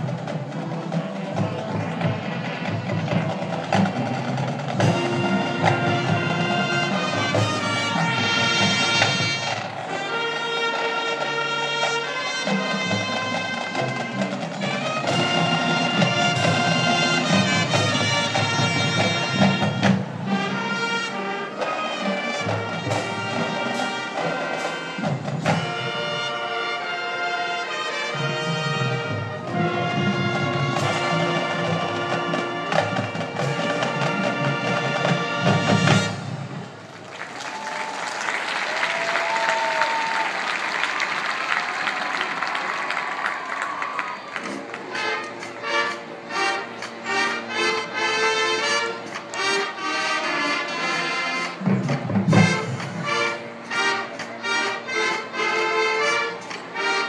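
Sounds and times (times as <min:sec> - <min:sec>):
marching drumline percussion: 0:00.0 - 0:26.7, 0:27.9 - 0:36.8, 0:42.8 - 0:57.0
brass chords: 0:00.0 - 0:36.9, 0:44.4 - 0:57.0.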